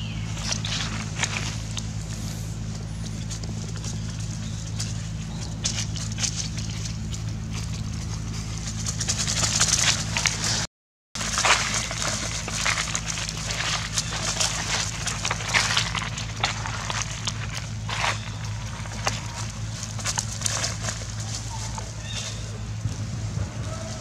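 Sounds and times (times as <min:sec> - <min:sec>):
footsteps on dry leaf litter: 0:00.0 - 0:24.0
steady low hum: 0:00.0 - 0:24.0.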